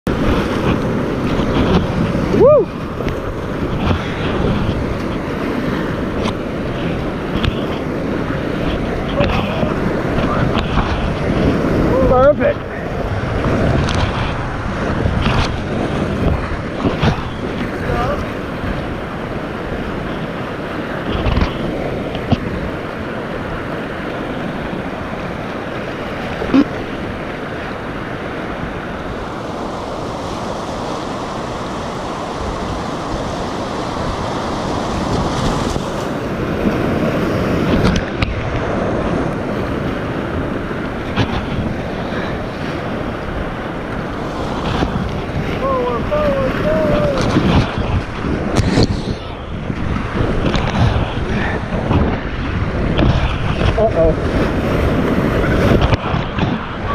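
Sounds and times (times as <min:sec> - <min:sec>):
whitewater rapids rushing: 0:00.1 - 0:56.9.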